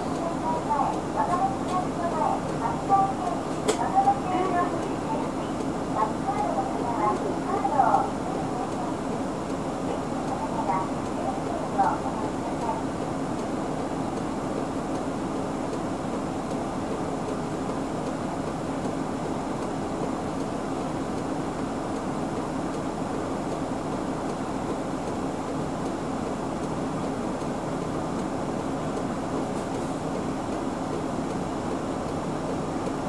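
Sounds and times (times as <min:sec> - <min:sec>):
bus engine idling: 0:00.0 - 0:33.0.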